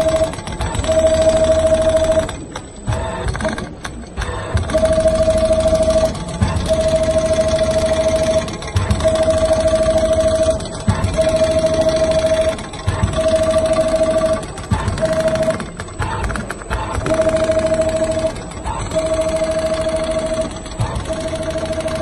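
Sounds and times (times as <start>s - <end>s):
high machine whine: 0.0s - 22.0s
sewing machine needle strokes: 0.0s - 22.0s.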